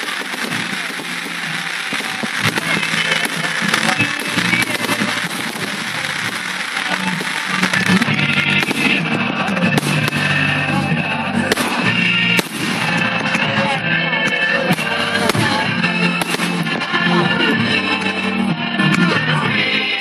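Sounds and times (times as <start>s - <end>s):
fireworks bangs: 0.0s - 19.6s
loud music: 0.0s - 20.0s.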